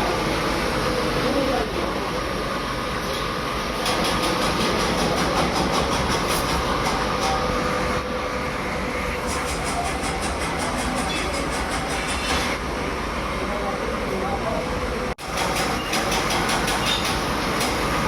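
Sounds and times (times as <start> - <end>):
workshop machinery running: 0.0 - 18.0.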